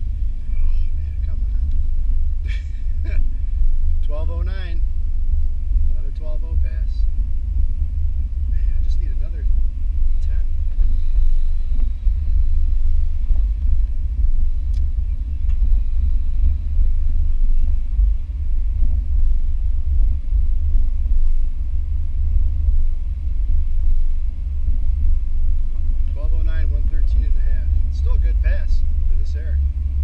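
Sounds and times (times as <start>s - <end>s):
car engine low rumble: 0.0s - 30.0s.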